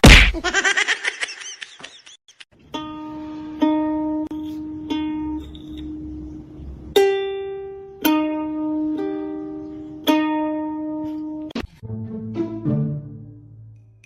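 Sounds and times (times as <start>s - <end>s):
plucked string notes: 2.6s - 14.0s.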